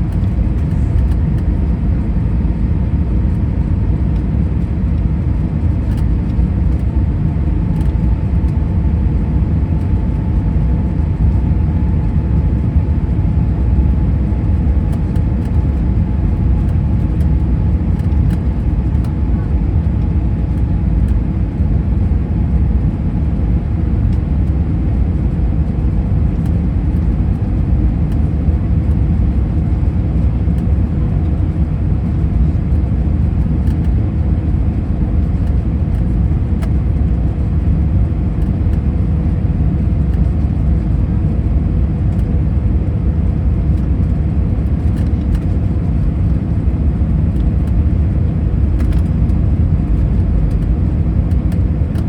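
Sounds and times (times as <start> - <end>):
airliner cabin rumble: 0.0 - 52.0.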